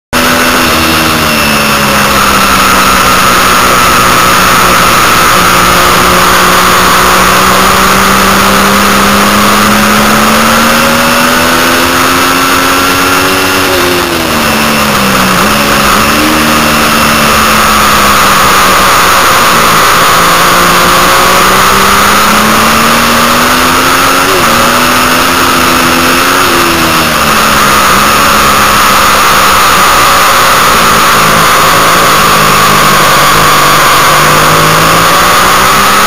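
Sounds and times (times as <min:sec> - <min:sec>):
motorcycle engine at high revs: 0:00.0 - 0:36.0.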